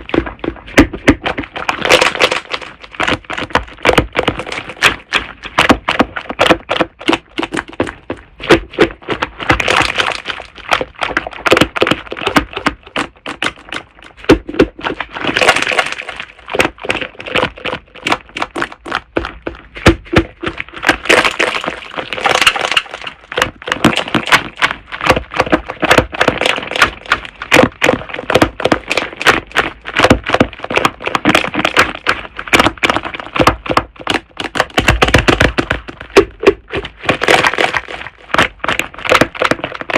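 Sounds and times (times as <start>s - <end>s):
slime squeezed crackling and popping: 0.0s - 39.9s.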